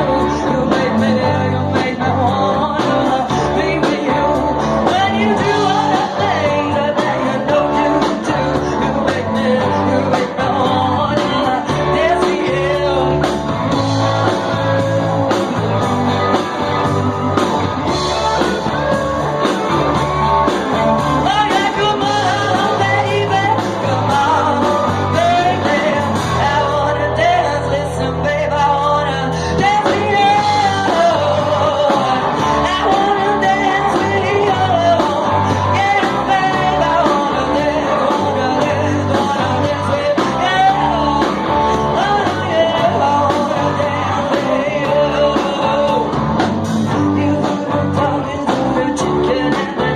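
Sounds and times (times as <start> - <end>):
garage rock band playing: 0.0 - 49.9
person singing: 0.0 - 49.9.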